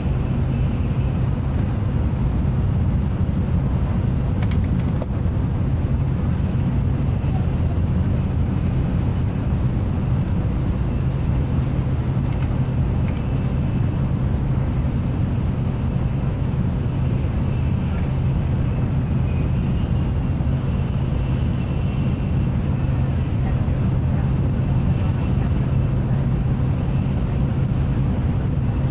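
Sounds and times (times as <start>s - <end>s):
train interior rumble and hiss: 0.0s - 28.9s.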